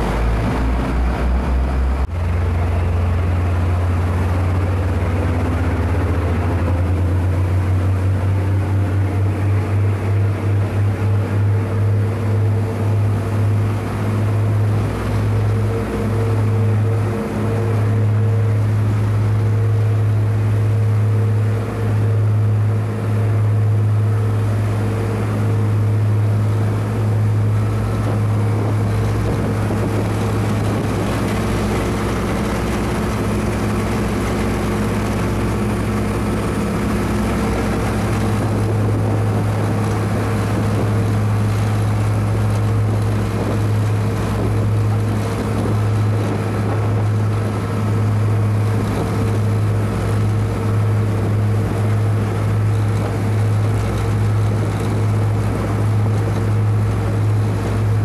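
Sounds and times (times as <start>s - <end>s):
ship engine humming: 0.0s - 58.0s
wind and water hiss: 0.0s - 58.0s.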